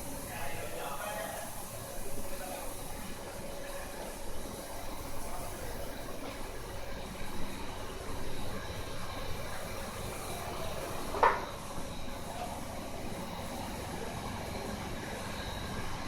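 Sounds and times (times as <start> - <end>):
industrial boiler plant running: 0.0 - 16.0.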